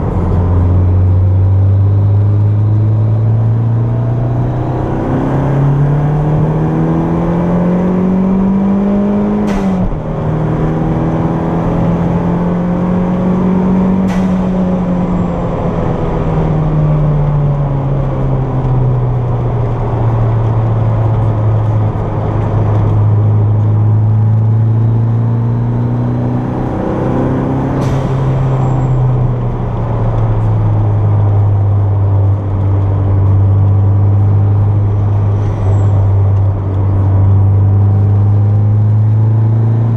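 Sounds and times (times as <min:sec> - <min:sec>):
car engine revving under load: 0:00.0 - 0:39.9.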